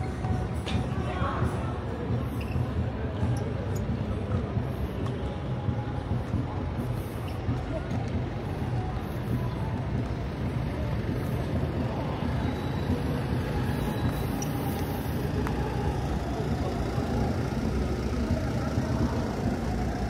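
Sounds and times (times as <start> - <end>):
road traffic rumble: 0.0 - 20.0
vehicle engines idling: 0.0 - 20.0.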